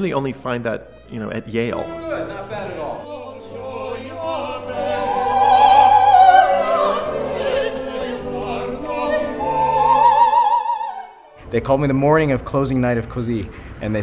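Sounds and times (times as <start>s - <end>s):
operatic singing with vibrato: 0.0s - 11.6s
orchestral accompaniment: 0.0s - 13.3s.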